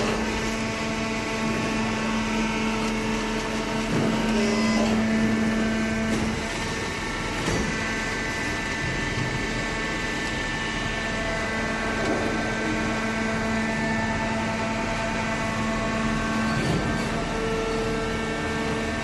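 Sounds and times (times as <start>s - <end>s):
shredding machine motor hum: 0.0s - 19.0s.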